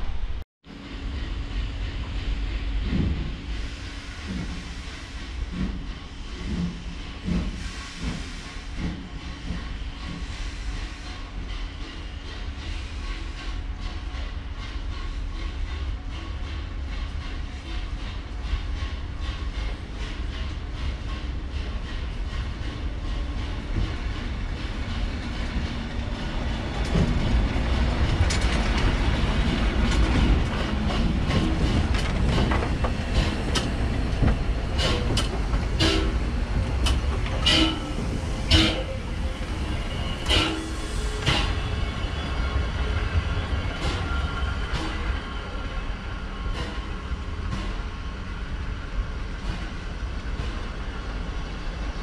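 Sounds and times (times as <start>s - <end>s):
steam train rumbling past: 0.0s - 52.0s.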